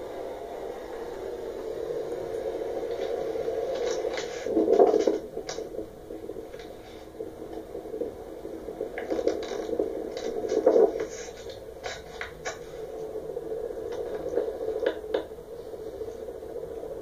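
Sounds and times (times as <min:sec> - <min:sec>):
ceiling fan whirring: 0:00.0 - 0:17.0
scrapes and clicks: 0:02.3 - 0:16.8.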